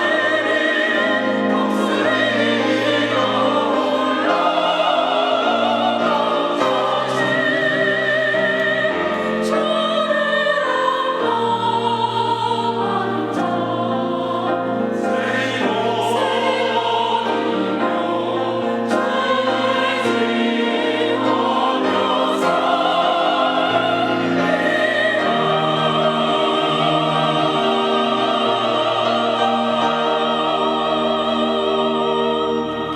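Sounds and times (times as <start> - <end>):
choir singing: 0.0 - 32.9.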